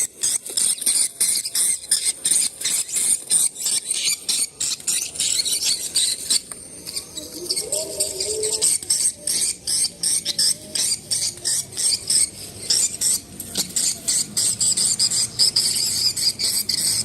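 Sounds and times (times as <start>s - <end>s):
high-pitched bird chirps from speaker: 0.6s - 13.2s, 13.8s - 17.0s.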